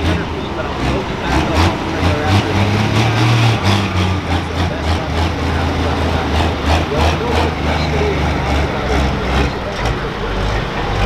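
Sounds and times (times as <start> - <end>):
heavy diesel engine at low revs: 0.0 - 11.0.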